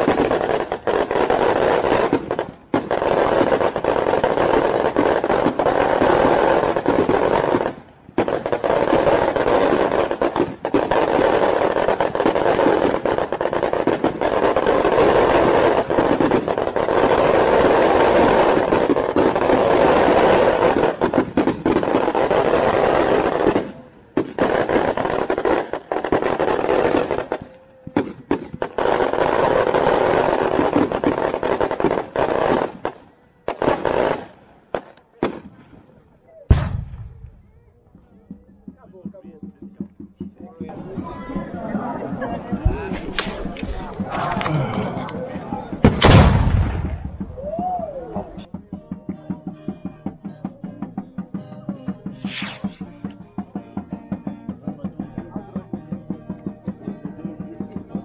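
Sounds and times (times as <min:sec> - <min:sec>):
fireworks crackling: 0:00.0 - 0:58.0.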